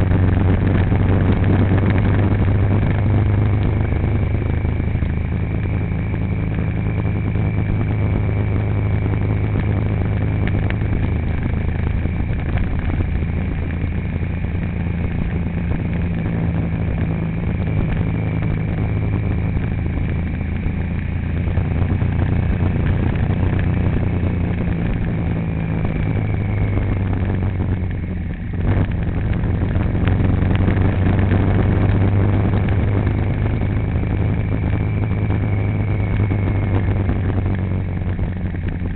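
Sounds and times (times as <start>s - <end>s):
high whine: 0.0s - 38.9s
vehicle engine running: 0.0s - 38.9s.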